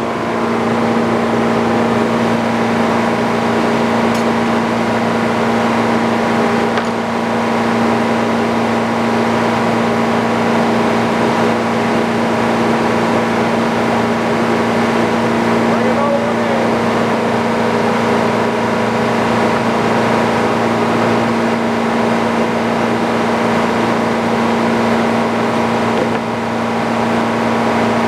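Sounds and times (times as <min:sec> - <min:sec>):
sawmill engine drone: 0:00.0 - 0:28.0.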